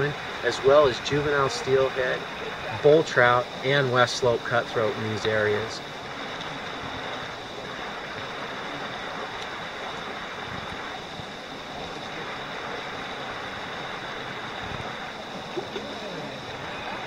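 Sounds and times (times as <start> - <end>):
high-pitched whine: 0.0 - 17.0
stream rushing over rocks: 0.0 - 17.0.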